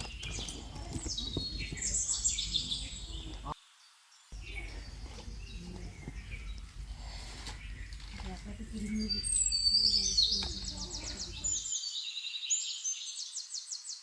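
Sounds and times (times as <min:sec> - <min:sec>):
birds chirping: 0:00.0 - 0:03.6, 0:04.3 - 0:13.5
outdoor background noise: 0:00.0 - 0:14.0.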